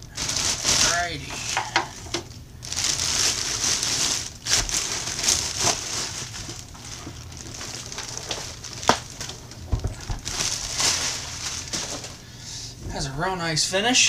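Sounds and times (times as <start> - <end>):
plastic bag rustling: 0.0 - 13.2.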